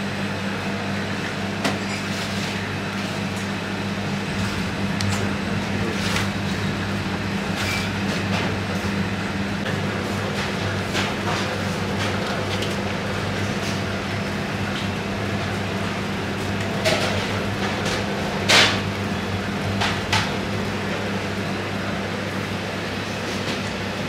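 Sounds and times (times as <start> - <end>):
kitchen machinery humming: 0.0 - 24.0.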